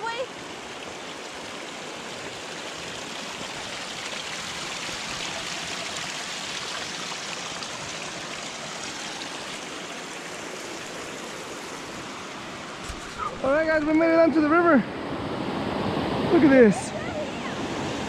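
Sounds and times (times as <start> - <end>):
stream running water: 0.0 - 18.0.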